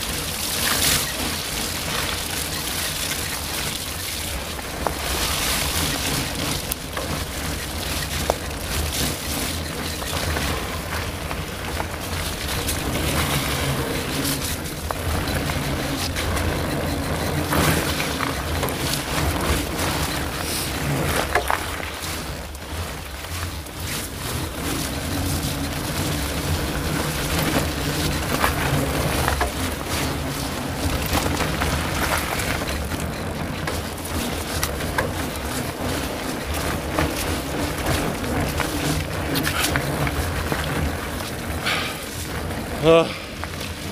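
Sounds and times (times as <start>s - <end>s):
knocks and rattles from bumps: 0.0s - 43.9s
tyres rolling on wet dirt: 0.0s - 43.9s
wind and motion rumble: 0.0s - 43.9s.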